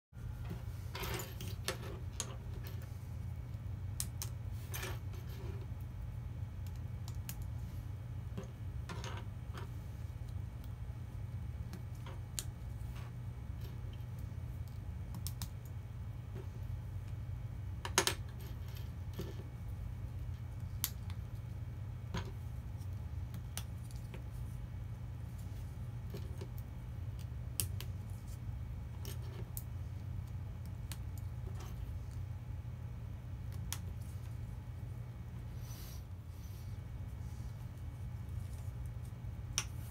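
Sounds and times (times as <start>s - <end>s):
steady low hum: 0.1s - 39.9s.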